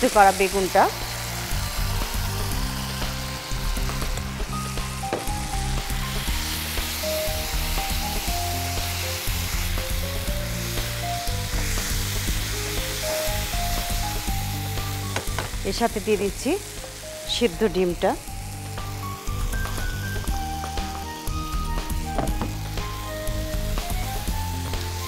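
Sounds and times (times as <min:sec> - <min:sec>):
food sizzling in frying pan: 0:00.0 - 0:25.0
soft background music: 0:00.0 - 0:25.0.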